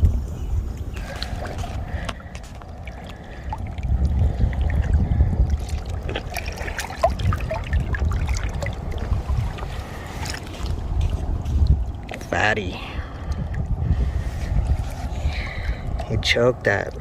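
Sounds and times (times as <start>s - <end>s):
water splashing and trickling: 0.0s - 17.0s
wind buffeting microphone: 0.0s - 17.0s.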